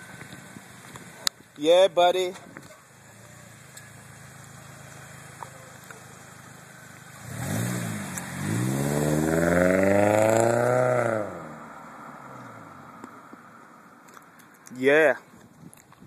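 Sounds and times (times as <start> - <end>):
car engine idling and revving: 0.0 - 14.6.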